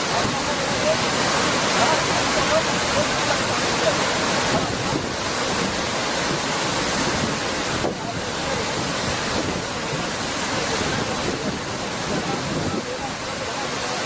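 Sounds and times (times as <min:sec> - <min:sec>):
wind buffeting microphone: 0:00.0 - 0:13.8
floodwater rushing: 0:00.0 - 0:14.0.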